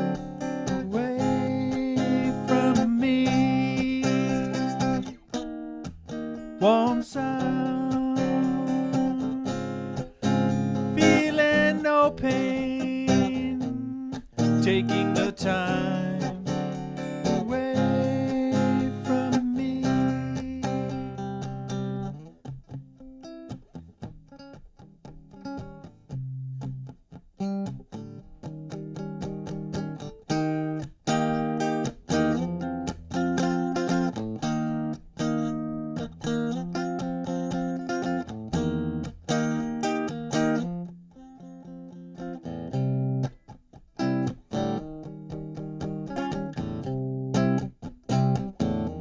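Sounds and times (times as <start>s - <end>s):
electric guitar playing: 0.0s - 49.0s.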